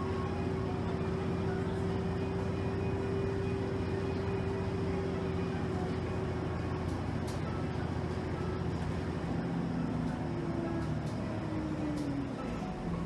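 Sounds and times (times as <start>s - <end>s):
bus engine and road drone: 0.0s - 13.0s.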